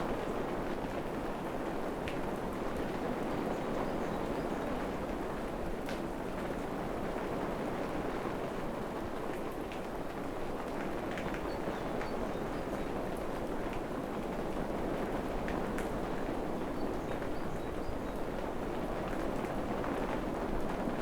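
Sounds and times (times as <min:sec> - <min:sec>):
rain falling in forest: 0:00.0 - 0:21.0.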